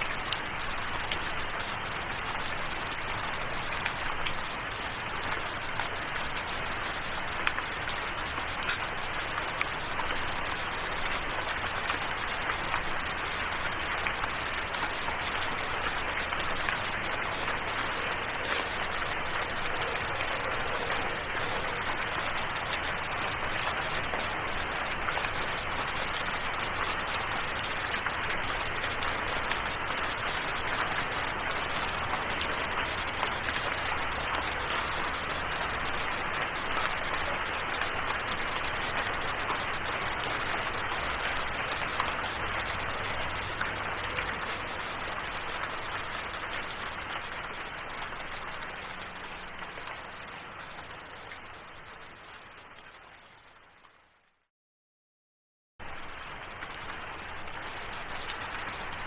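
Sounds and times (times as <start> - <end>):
steady rain falling: 0.0 - 54.3, 55.8 - 59.0.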